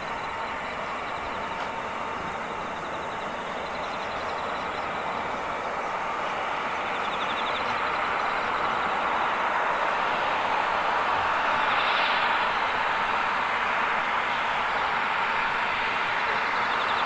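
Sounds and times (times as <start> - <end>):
jet engine rushing noise: 0.0 - 17.0.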